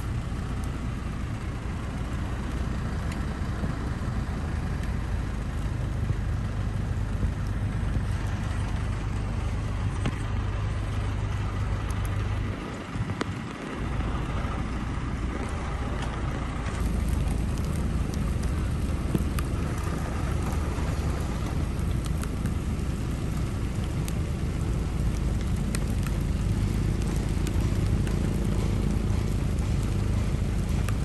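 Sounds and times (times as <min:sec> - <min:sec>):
sharp raindrop ticks: 0:00.0 - 0:31.0
steady rain: 0:00.0 - 0:31.0
wind rumble on microphone: 0:00.0 - 0:31.0.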